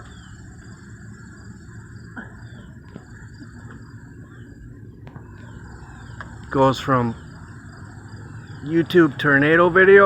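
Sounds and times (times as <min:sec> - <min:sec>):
distant bird calls: 0:00.0 - 0:10.0
insects trilling: 0:00.0 - 0:10.0.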